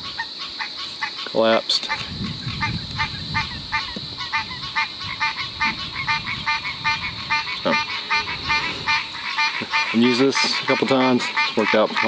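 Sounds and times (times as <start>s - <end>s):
animal calling: 0.0s - 12.0s
steady high hiss: 0.0s - 12.0s.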